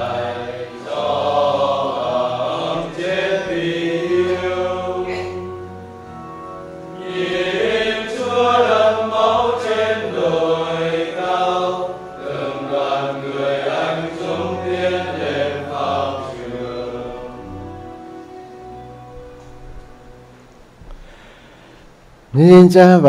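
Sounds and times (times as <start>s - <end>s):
slow hymn sung: 0.0s - 21.8s.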